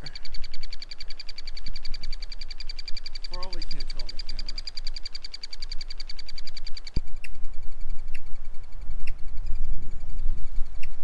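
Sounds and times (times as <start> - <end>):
sharp woodpecker calls: 0.0 - 11.0
wind rumbling on microphone: 0.0 - 11.0
woodpeckers chattering: 0.0 - 11.0.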